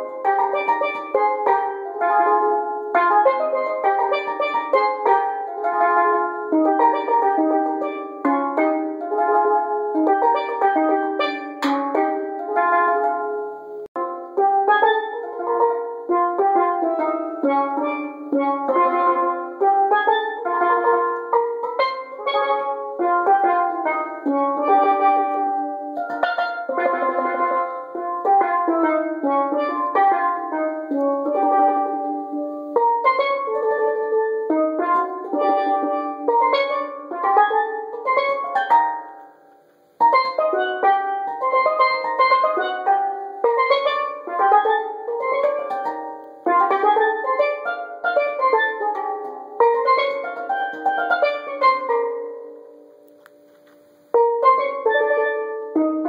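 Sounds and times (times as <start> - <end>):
steel pan melody: 0.0 - 56.0.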